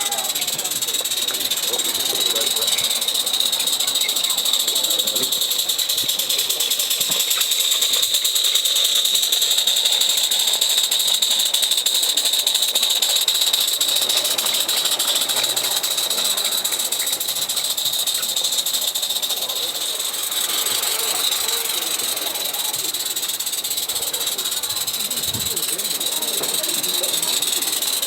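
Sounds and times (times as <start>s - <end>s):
model steam locomotive hissing: 0.0s - 28.0s.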